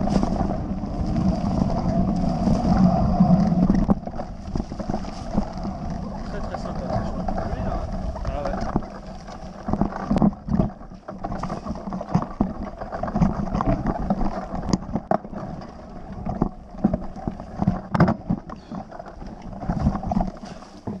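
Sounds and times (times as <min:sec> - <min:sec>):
bike tyres rolling over dirt and stones: 0:00.0 - 0:21.0
wind on microphone: 0:00.0 - 0:21.0
bike knocks and rattles: 0:03.4 - 0:21.0.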